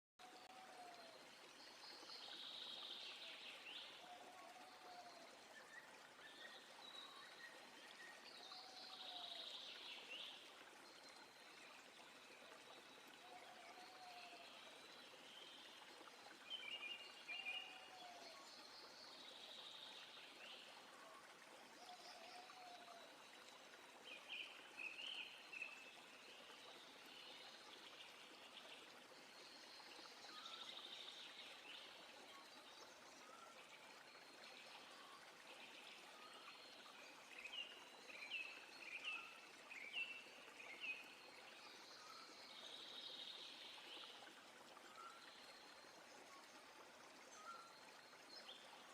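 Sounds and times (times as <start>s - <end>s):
faint stream running: 0.2s - 48.9s.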